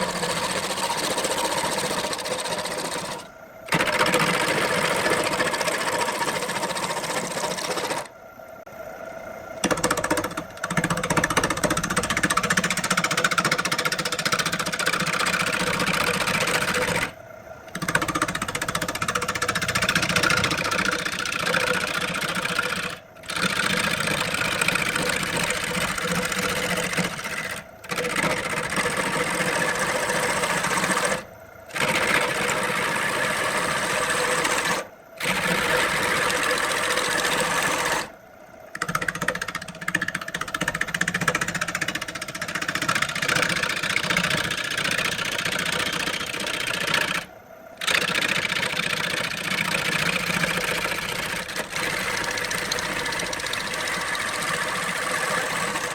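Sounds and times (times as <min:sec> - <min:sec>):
tool cutting spinning wood: 0:00.0 - 0:08.2, 0:09.6 - 0:55.9
lathe motor whine: 0:00.0 - 0:55.9.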